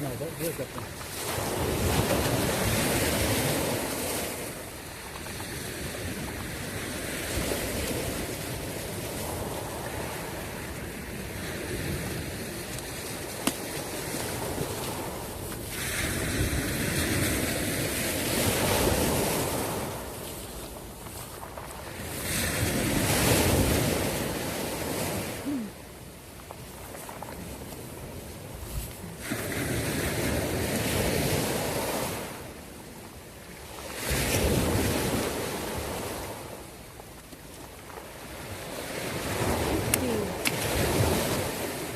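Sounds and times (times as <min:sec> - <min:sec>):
sea waves washing: 0:00.0 - 0:41.9.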